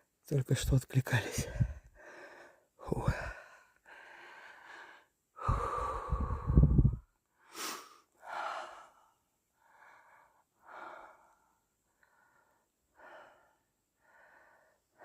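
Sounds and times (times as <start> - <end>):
person breathing heavily: 1.3 - 15.0.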